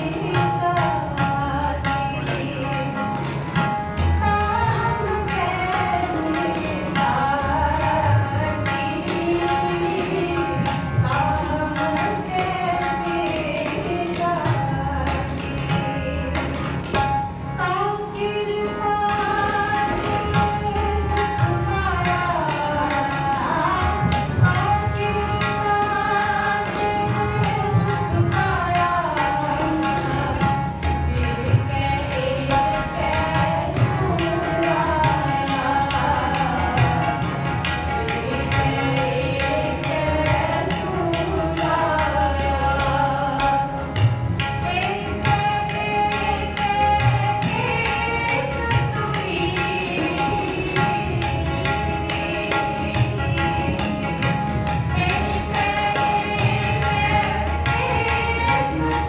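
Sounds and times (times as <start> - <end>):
woman singing: 0.0 - 3.2, 4.1 - 16.6, 17.6 - 37.2, 38.1 - 43.8, 44.6 - 54.1, 54.9 - 59.0
harmonium sustained notes: 0.0 - 59.0
tabla beat: 0.0 - 59.0.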